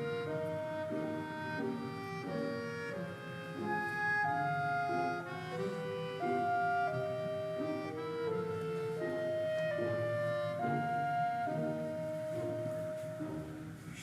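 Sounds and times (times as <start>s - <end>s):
instrumental music melody: 0.0s - 14.0s.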